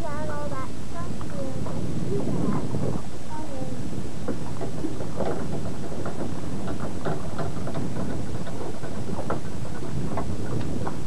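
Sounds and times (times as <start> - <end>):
boat engine rumble: 0.0 - 11.0
water slapping against hull: 1.1 - 11.0.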